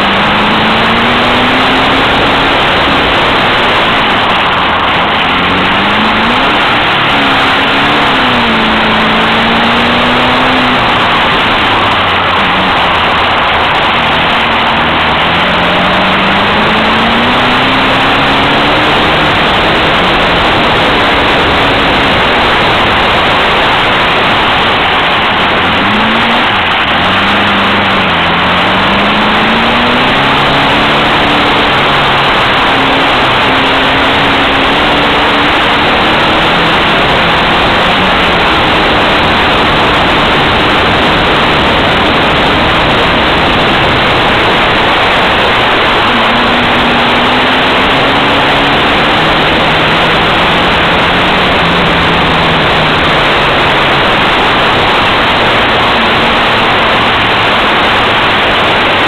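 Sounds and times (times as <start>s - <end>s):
race car engine revving: 0.0s - 59.0s
wind and road noise: 0.0s - 59.0s.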